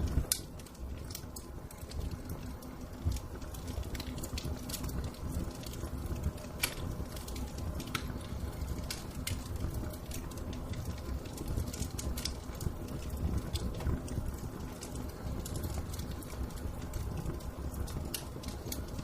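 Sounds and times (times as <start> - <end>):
low rumble of flame: 0.0 - 19.0
wood fire crackling and popping: 0.0 - 19.0.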